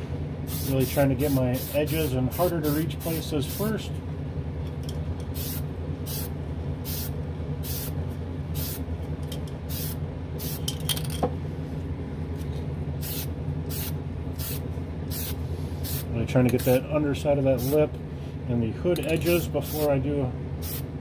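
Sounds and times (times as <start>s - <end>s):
exhaust fan hum: 0.0s - 21.0s.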